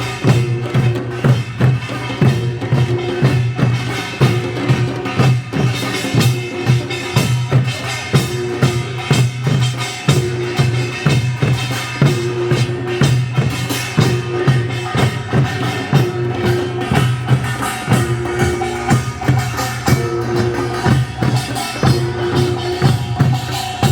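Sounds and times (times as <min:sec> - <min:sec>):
drum strikes: 0:00.0 - 0:23.9
hand percussion hits: 0:00.0 - 0:23.9.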